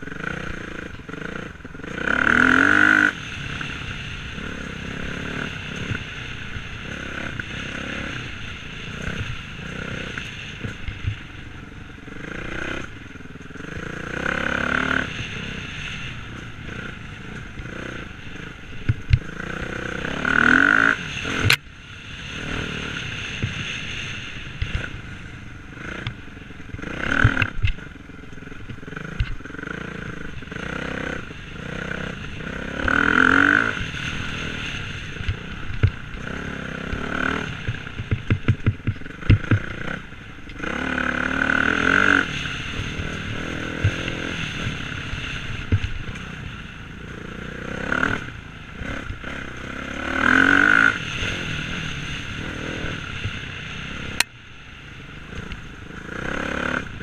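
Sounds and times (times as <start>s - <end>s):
dirt bike engine revving: 0.0s - 54.3s, 55.2s - 57.0s.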